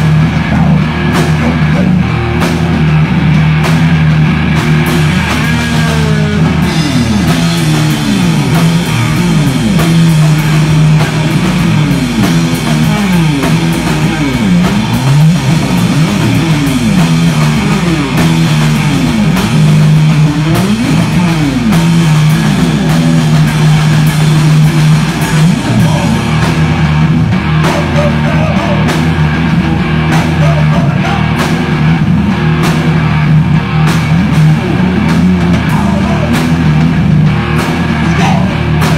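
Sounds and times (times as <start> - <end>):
live hard rock band: 0.0 - 38.9.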